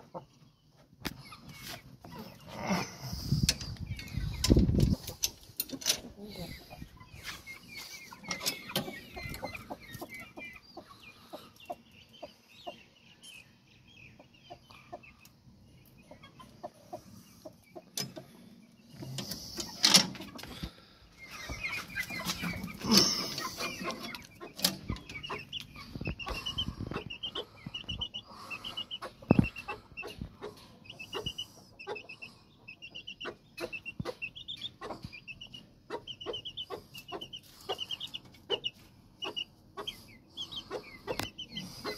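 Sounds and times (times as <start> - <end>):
chick peeping: 0.0 - 41.9
chickens clucking: 0.0 - 41.9.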